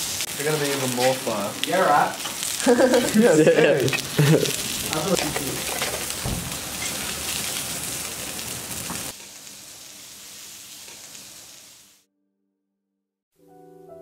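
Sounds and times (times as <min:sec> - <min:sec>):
sausages sizzling on a hotplate: 0:00.0 - 0:12.0.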